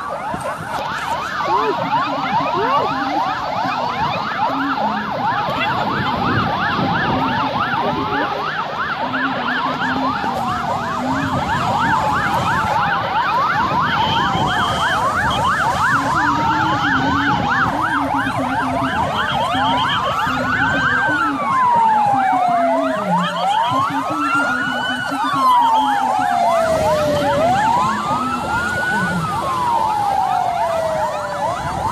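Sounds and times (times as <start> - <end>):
emergency sirens yelping and wailing: 0.0 - 31.9
short steady siren tones: 0.0 - 31.9.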